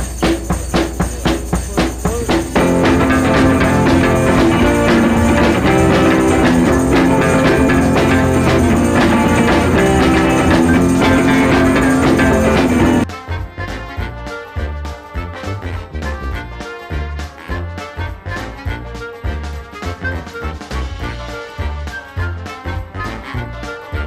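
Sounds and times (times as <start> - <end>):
upbeat band music with guitar and drums: 0.0 - 24.0.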